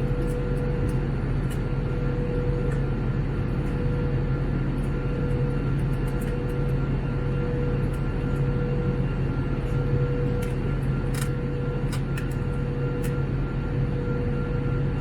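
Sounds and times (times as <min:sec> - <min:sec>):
airplane cabin engine hum: 0:00.0 - 0:15.0.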